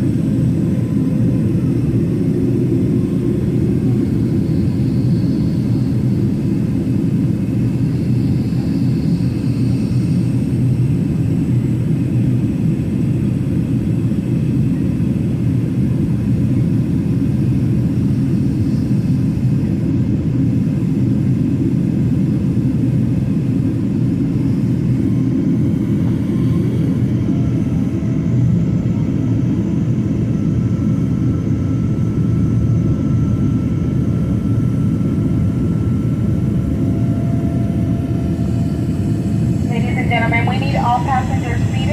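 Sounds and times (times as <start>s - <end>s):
jet engines low rumble: 0.0s - 41.9s.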